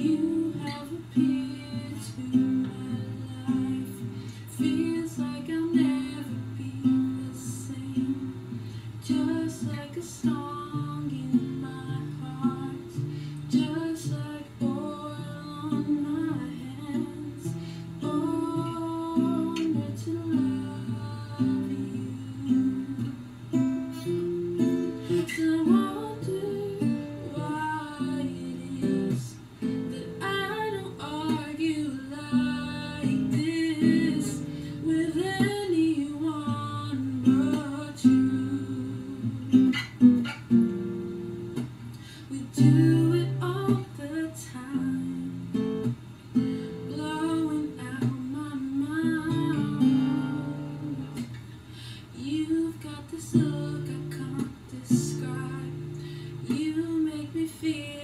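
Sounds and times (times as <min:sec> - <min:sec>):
acoustic guitar picking and strumming: 0:00.0 - 0:58.0
woman singing: 0:00.0 - 0:58.0.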